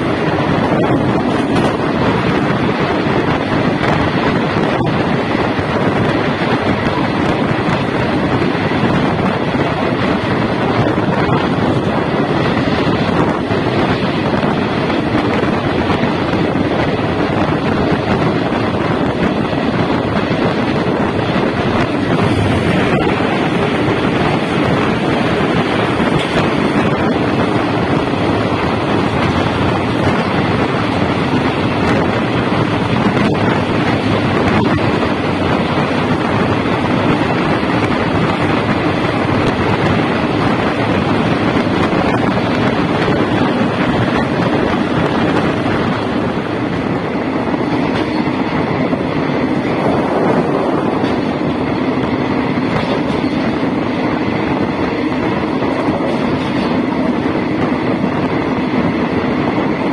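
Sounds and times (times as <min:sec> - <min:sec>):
train wheels on rails: 0:00.0 - 0:59.9
wind rushing past window: 0:00.0 - 0:59.9.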